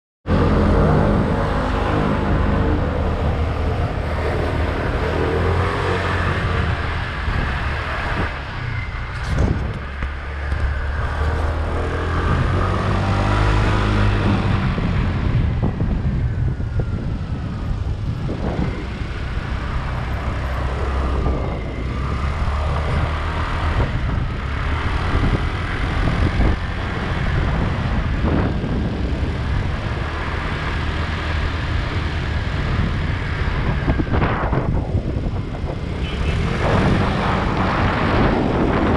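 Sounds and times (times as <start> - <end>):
road noise: 0.2 - 38.9
rushing wind: 0.2 - 38.9.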